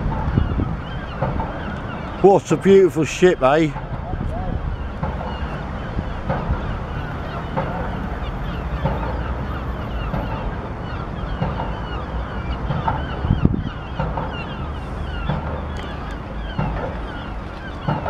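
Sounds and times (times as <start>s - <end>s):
birds calling: 0.0s - 18.0s
wind rumble on microphone: 0.0s - 18.0s.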